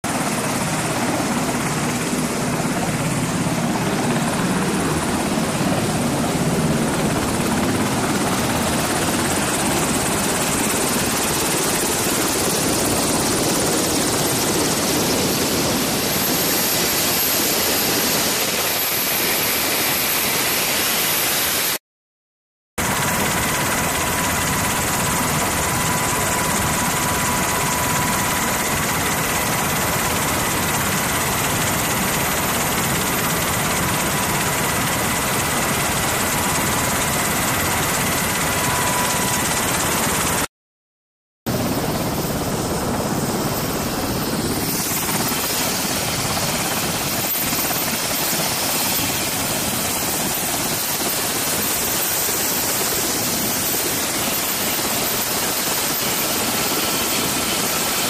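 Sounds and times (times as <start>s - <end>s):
helicopter engines and rotor: 0.0s - 21.8s, 22.8s - 40.5s, 41.5s - 58.0s.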